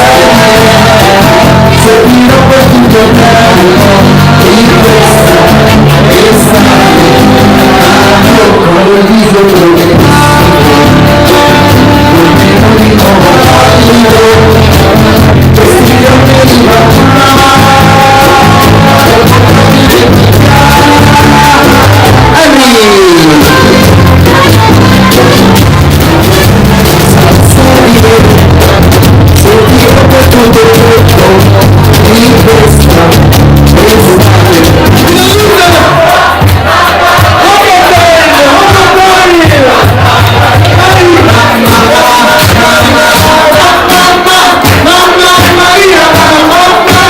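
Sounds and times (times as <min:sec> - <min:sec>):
live band playing: 0:00.0 - 0:47.0
person singing: 0:00.0 - 0:47.0.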